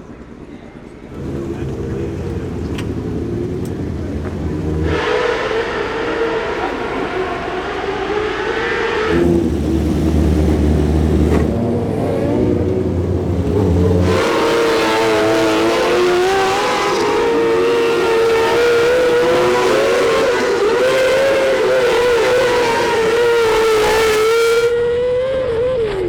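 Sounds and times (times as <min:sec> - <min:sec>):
racing car engines at high revs: 0:00.8 - 0:26.0.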